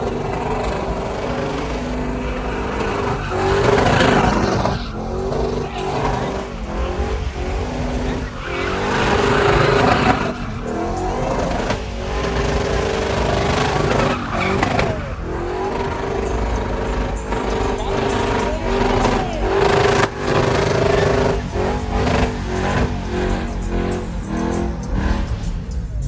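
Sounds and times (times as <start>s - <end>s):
loud continuous din: 0.0s - 26.0s
vehicle engine revving: 0.0s - 26.0s.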